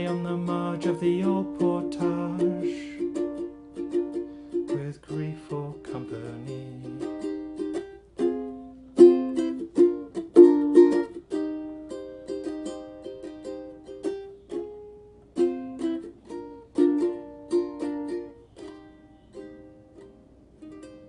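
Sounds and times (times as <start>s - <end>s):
ukulele playing: 0.0s - 21.0s.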